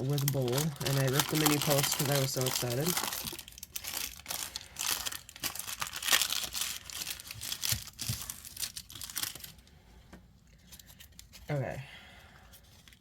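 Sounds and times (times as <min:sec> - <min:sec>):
plastic packaging crinkling and tearing: 0:00.0 - 0:09.7, 0:10.5 - 0:11.6.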